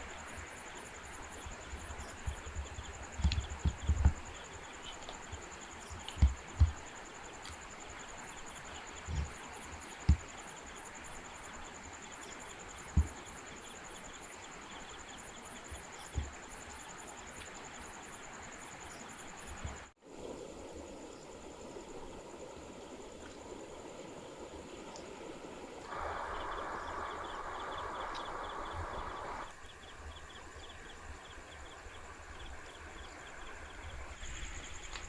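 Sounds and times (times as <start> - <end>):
crickets trilling: 0.0 - 35.0
insect chirping in short groups: 0.0 - 35.0.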